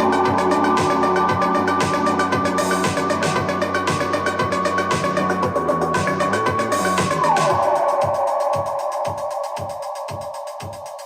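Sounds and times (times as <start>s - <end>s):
held synth tone: 0.0s - 10.7s
electronic music beat: 0.0s - 11.0s.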